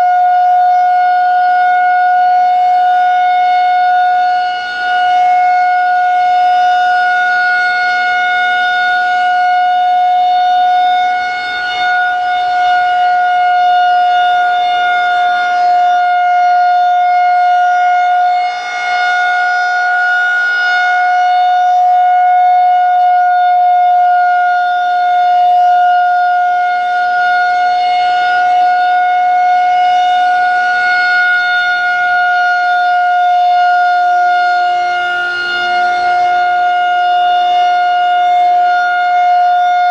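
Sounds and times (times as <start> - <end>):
steady-tone warning siren: 0.0 - 39.9.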